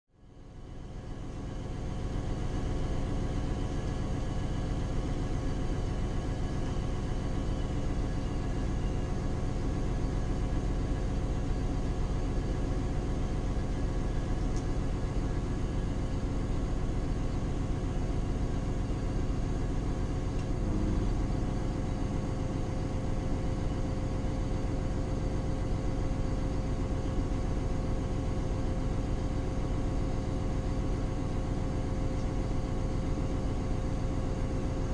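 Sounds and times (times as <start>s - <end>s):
diesel engine idling: 0.4s - 34.9s.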